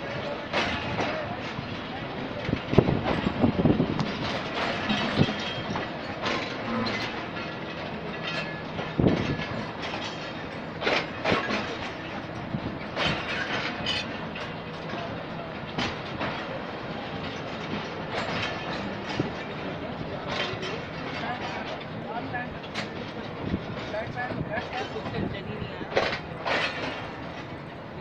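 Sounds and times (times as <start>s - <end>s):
train coaches rumbling: 0.0s - 28.0s.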